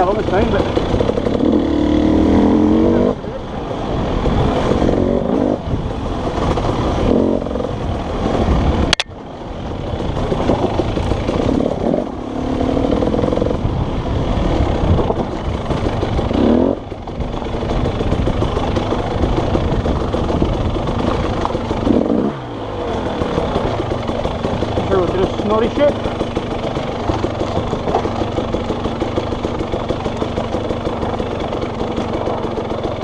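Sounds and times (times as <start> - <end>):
dirt bike engine revving: 0.0 - 9.0, 9.8 - 33.0.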